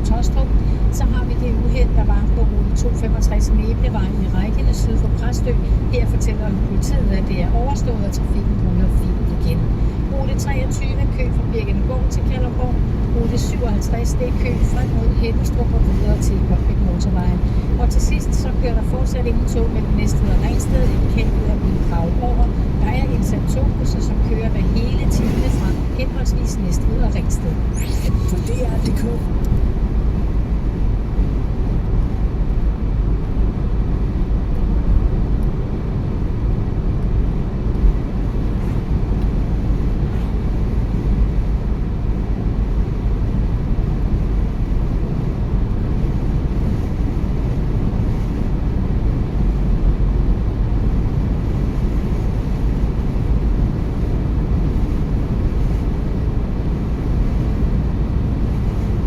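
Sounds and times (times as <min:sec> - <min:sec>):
car cabin road noise: 0:00.0 - 0:59.0.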